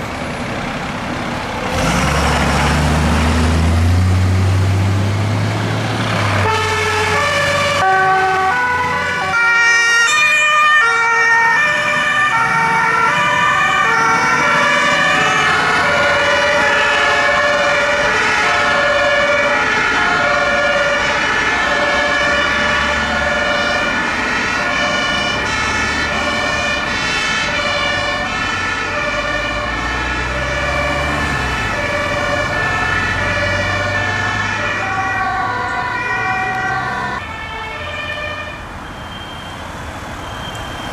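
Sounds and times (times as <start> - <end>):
vehicle engines running: 0.0 - 9.5, 11.4 - 40.9
two-tone emergency sirens: 0.0 - 40.9.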